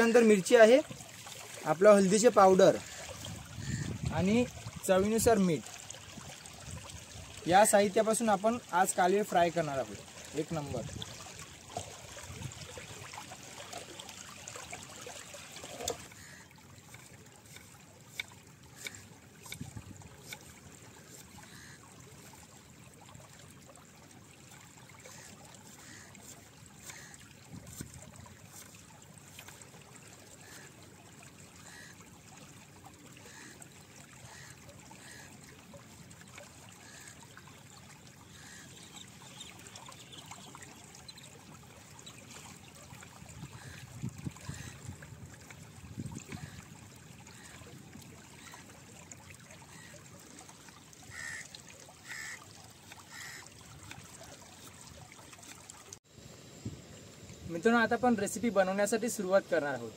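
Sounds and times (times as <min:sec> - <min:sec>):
seawater trickling through rocks: 0:00.0 - 0:56.2.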